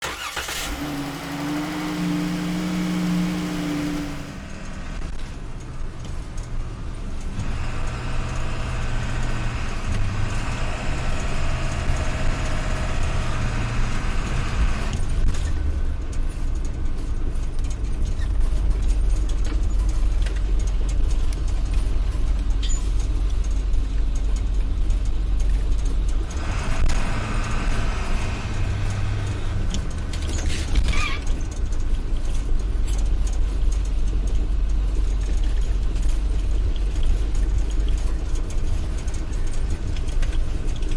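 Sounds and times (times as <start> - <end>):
vehicle engine rumbling: 0.0 - 40.9.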